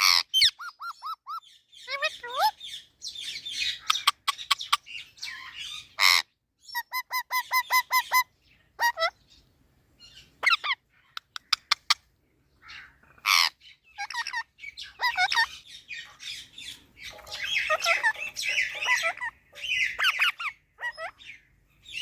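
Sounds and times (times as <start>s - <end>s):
parrot squawking and chattering: 0.0s - 9.2s, 10.1s - 22.0s.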